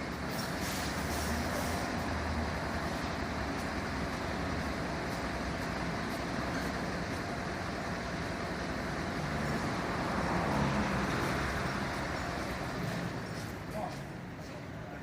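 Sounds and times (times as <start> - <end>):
fire truck engine running: 0.0 - 15.0.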